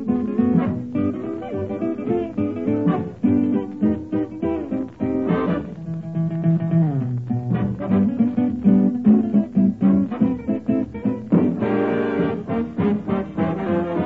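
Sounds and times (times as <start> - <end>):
plucked guitar: 0.0 - 14.0.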